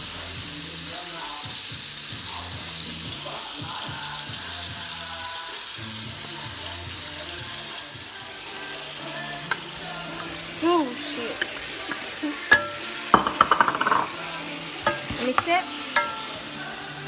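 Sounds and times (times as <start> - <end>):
background music: 0.0 - 17.0
food frying in a pan: 0.0 - 17.0.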